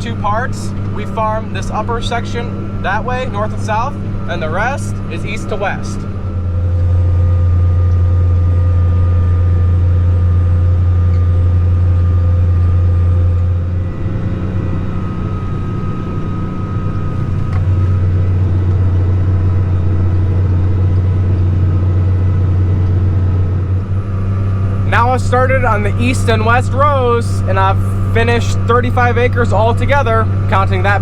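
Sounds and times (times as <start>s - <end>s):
steady whine: 0.0s - 31.0s
tractor engine under load: 0.0s - 31.0s.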